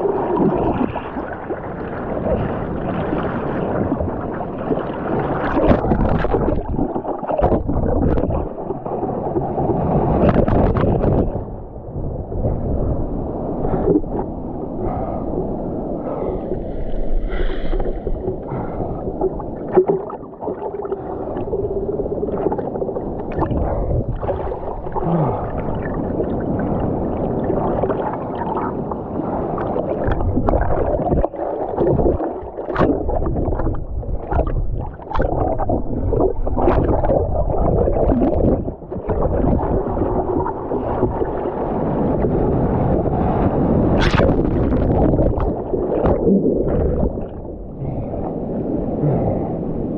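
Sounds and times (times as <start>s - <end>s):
muffled sea water sloshing: 0.0s - 49.9s.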